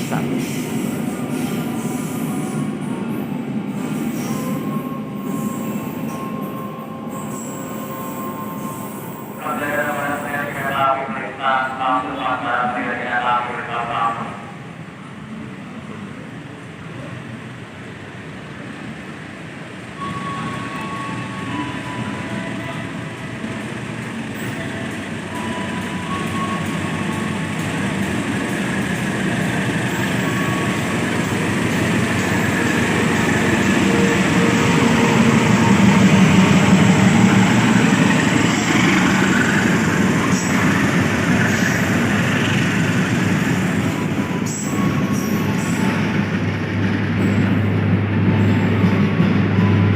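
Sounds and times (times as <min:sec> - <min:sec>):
train running past on track: 0:00.0 - 0:49.9.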